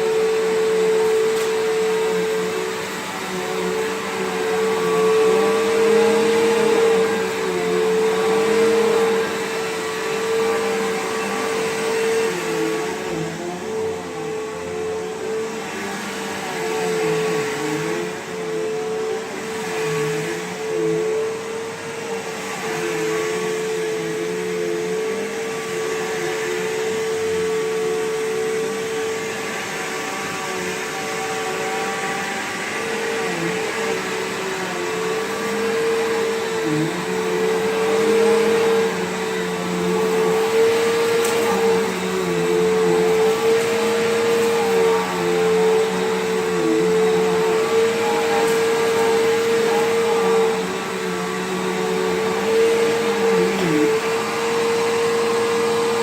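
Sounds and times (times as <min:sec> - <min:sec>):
upright vacuum motor whine: 0:00.0 - 0:56.0.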